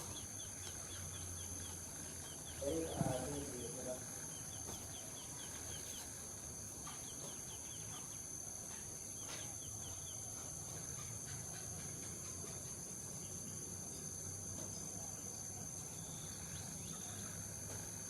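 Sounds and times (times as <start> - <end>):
small bird chirping: 0.0 - 17.4
high insect drone: 0.0 - 18.0.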